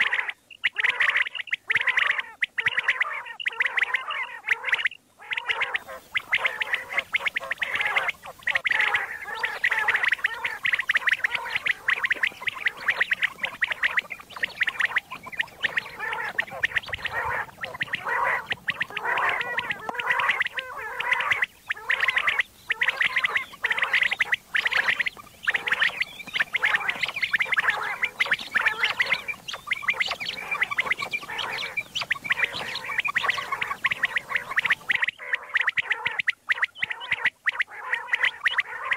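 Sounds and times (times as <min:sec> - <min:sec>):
quail calls chattering: 0:00.0 - 0:38.9.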